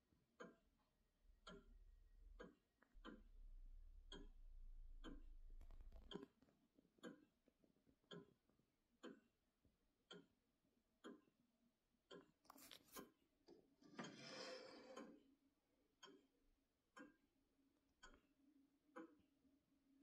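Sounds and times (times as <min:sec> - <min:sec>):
clock ticking: 0:00.0 - 0:11.4, 0:12.0 - 0:13.2, 0:13.9 - 0:19.3.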